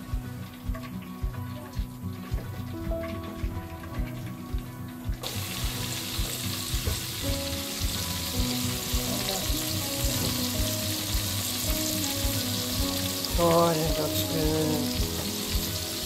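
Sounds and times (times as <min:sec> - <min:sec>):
background music with steady beat: 0:00.0 - 0:16.0
food deep-frying in hot oil: 0:00.0 - 0:16.0.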